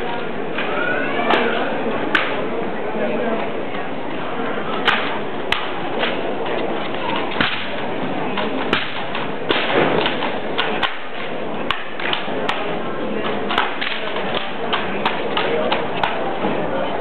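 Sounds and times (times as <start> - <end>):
hall background noise: 0.0 - 17.0.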